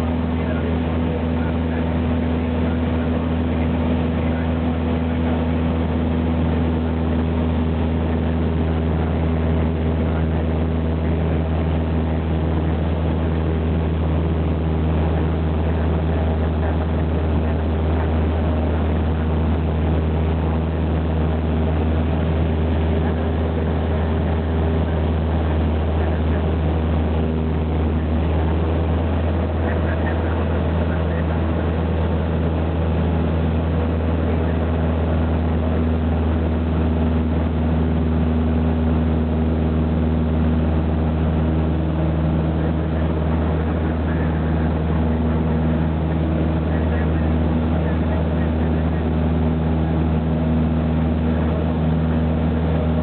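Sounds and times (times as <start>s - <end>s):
airplane engine droning in cabin: 0.0s - 53.0s.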